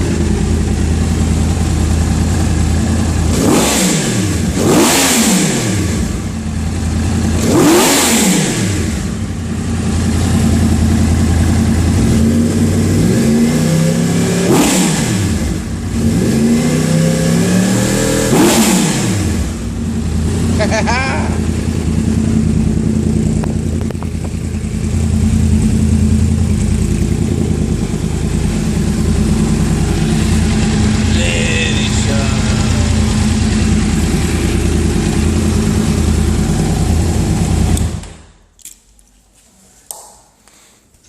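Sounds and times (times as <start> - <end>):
motorcycle engine running: 0.0 - 38.3.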